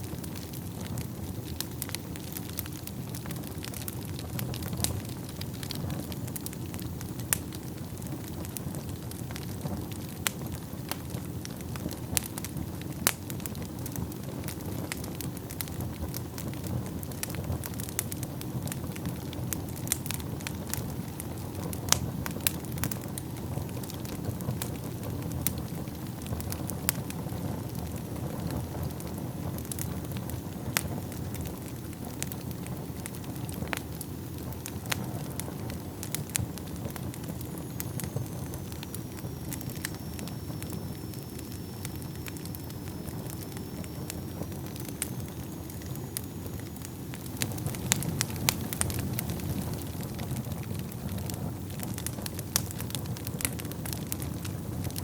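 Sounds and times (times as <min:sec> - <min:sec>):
flames rushing: 0:00.0 - 0:55.0
wood fire crackling and snapping: 0:00.0 - 0:55.0.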